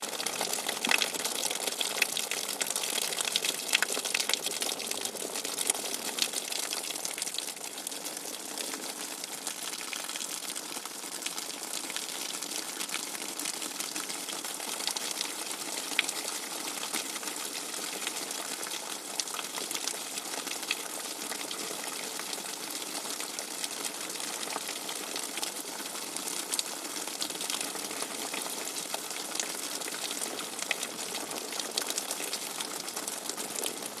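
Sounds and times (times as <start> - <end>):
hard rain: 0.0 - 16.2, 18.6 - 34.0.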